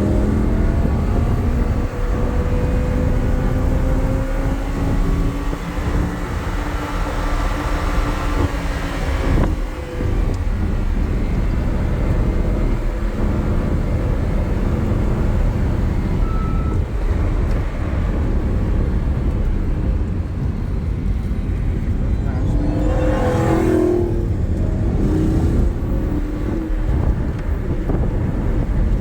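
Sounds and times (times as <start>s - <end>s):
car engine revving high: 0.0s - 17.2s, 21.8s - 29.0s
wind and road noise: 0.0s - 29.0s.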